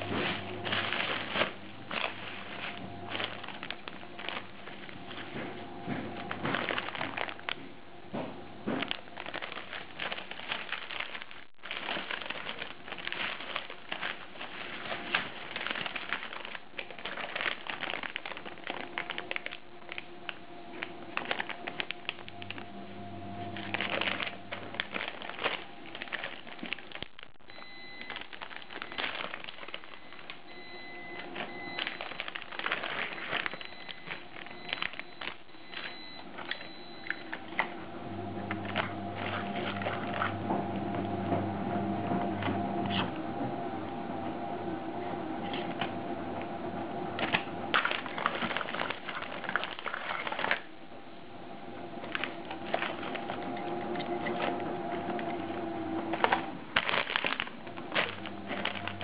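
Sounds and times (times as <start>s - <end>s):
bubble wrap and plastic bag crinkling: 0.0s - 37.8s, 38.5s - 41.0s, 45.4s - 45.9s, 47.1s - 50.8s, 51.9s - 59.0s.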